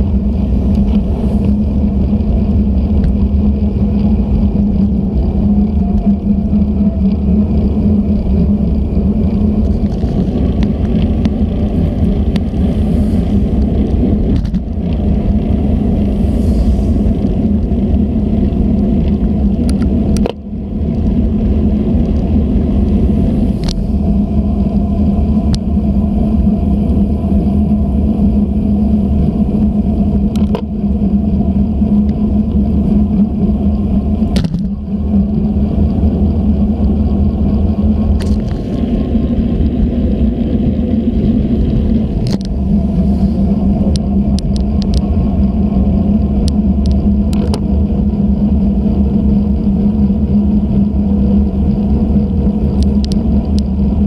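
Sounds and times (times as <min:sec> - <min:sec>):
road rumble: 0:00.0 - 0:54.0
wind: 0:00.0 - 0:54.0.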